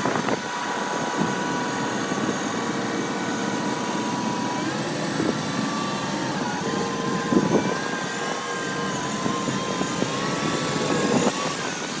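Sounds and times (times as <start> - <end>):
steady whine: 0.0 - 12.0
wheel loader diesel engine: 0.0 - 12.0.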